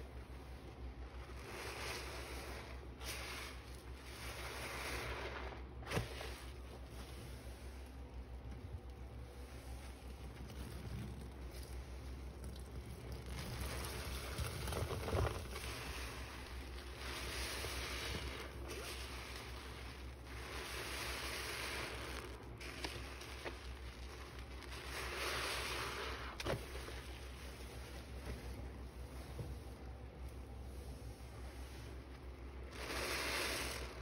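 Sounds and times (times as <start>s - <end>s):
foam fizzing and crackling: 0.0s - 34.0s
sponge squishing in water: 0.0s - 34.0s.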